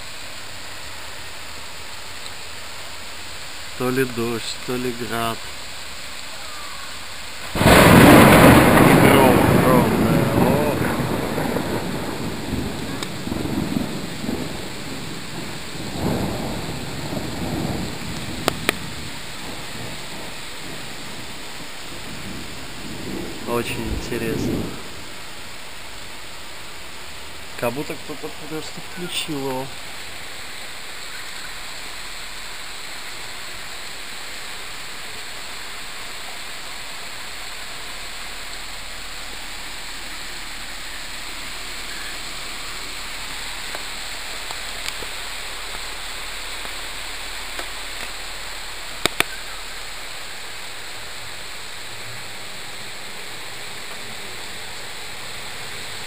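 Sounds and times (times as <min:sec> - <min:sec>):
rain falling on trees: 0:00.0 - 0:56.0.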